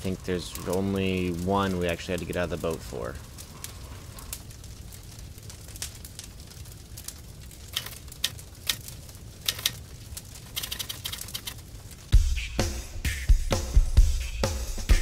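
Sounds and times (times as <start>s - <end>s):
fire pops and snaps: 0.0s - 12.2s
campfire crackling: 0.0s - 13.2s.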